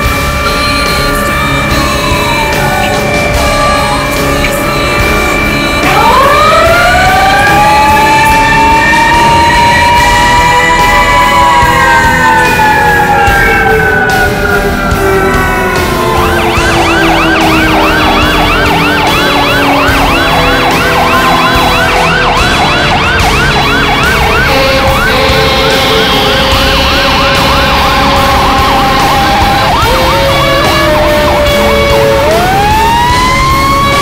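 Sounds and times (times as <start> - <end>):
fast electronic siren yelp: 0.0 - 34.0
siren wail: 0.0 - 34.0.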